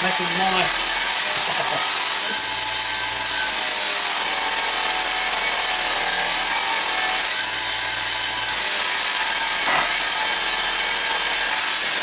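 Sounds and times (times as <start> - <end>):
bench grinder whirring: 0.0 - 12.0.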